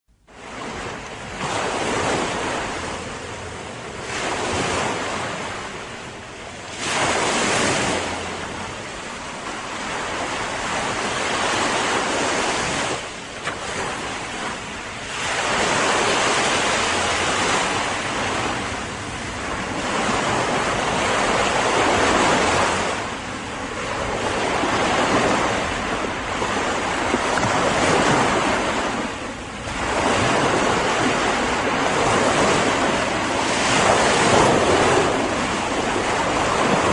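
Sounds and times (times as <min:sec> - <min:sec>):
ocean waves breaking on shore: 0:00.1 - 0:36.9.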